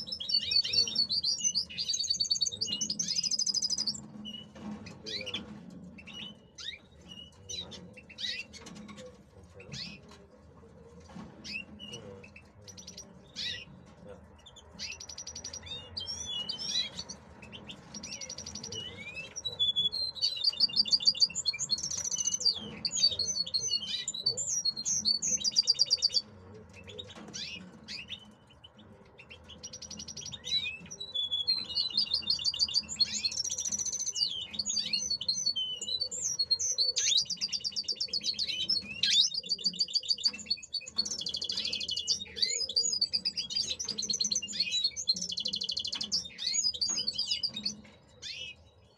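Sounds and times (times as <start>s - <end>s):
goldfinch singing: 0.0s - 9.0s, 11.4s - 13.8s, 14.4s - 48.7s.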